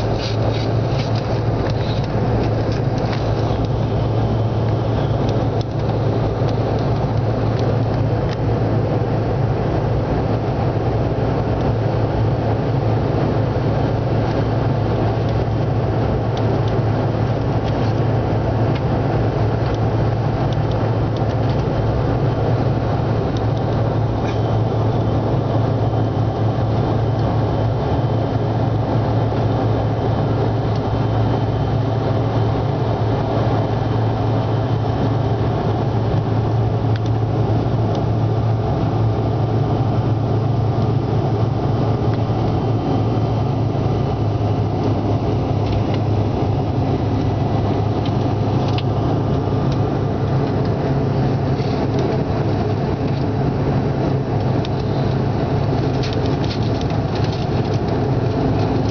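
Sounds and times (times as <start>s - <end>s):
jet airliner cabin noise: 0.0s - 58.9s
strong low hum: 0.0s - 58.9s.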